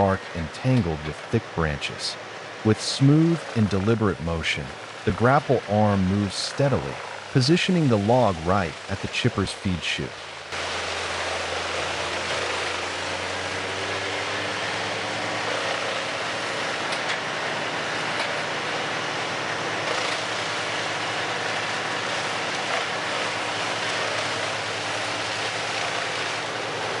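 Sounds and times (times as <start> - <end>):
machinery engines humming: 0.0 - 27.0
wood chipper rushing noise: 0.0 - 27.0.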